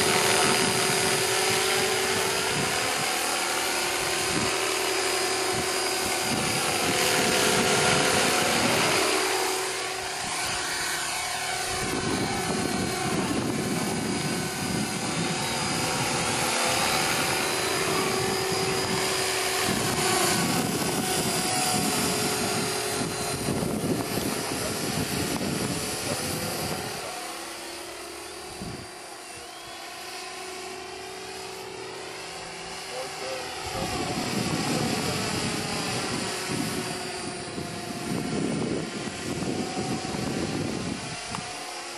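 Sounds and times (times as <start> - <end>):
model helicopter rotor whine: 0.0 - 41.9.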